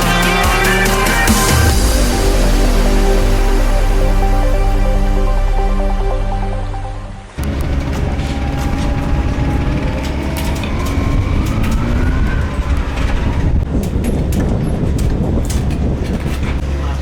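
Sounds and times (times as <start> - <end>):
engine crackles: 0.0 - 17.0
rally car engine accelerating: 0.0 - 17.0.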